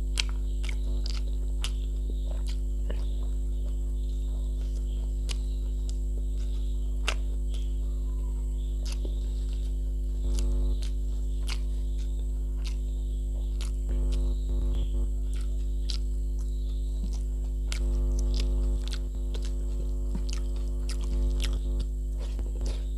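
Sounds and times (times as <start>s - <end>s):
low electrical mains hum: 0.0s - 22.9s
person chewing with open mouth: 0.0s - 22.9s.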